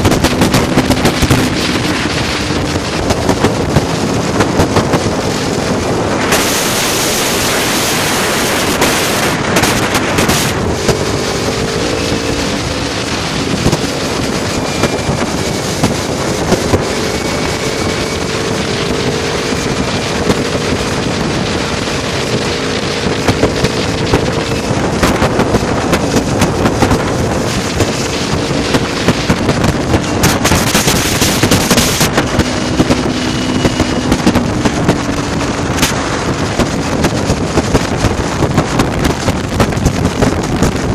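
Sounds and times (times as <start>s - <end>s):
motorcycle engines droning: 0.0s - 40.9s
wind buffeting the microphone: 0.0s - 40.9s.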